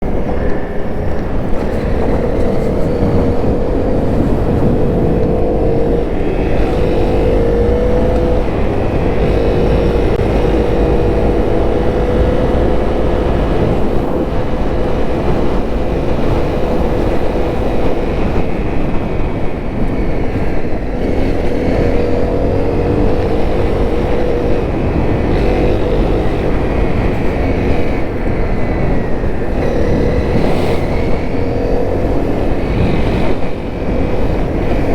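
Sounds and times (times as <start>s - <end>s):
motorcycle engine revving: 0.0s - 34.9s
steady low rumble: 0.0s - 34.9s.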